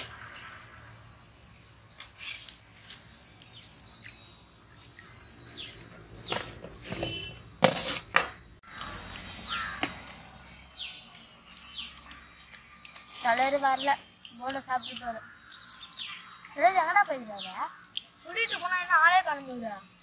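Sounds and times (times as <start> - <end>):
birds chirping: 0.0 - 7.5, 8.6 - 20.0
outdoor background noise: 0.0 - 20.0.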